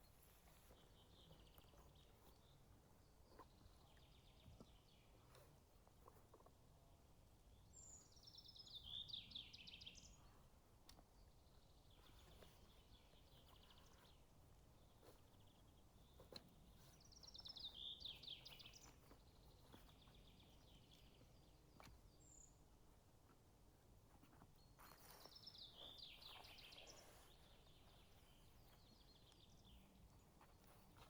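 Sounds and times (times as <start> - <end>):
songbird singing: 0.0 - 5.5, 7.5 - 23.4, 24.3 - 31.0.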